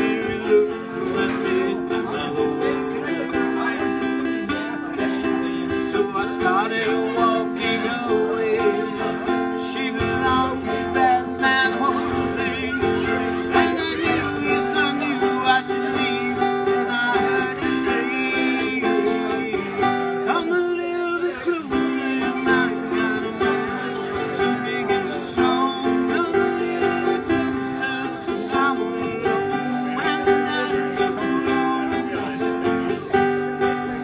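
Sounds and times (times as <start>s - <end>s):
acoustic guitars playing: 0.0s - 34.0s.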